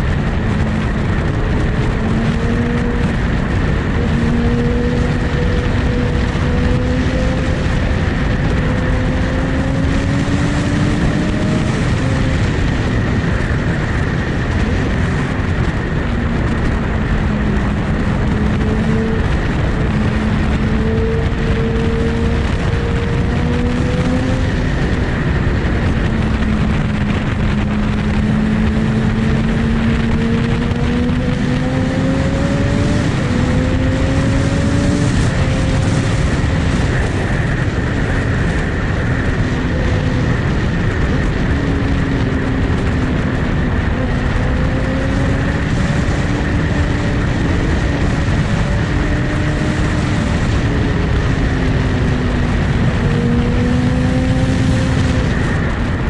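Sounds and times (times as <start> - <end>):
loud rushing noise: 0.0 - 56.0
motorcycle engine cruising: 0.0 - 56.0.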